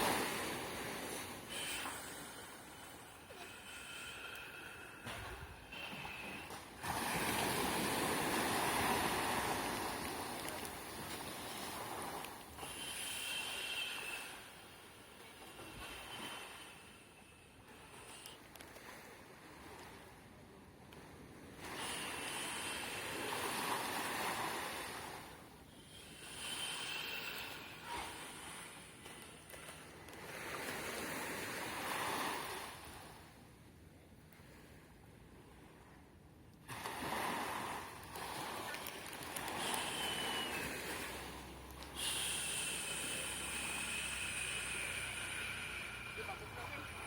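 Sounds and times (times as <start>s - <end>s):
ocean waves washing ashore: 0.0s - 33.6s, 36.6s - 47.0s.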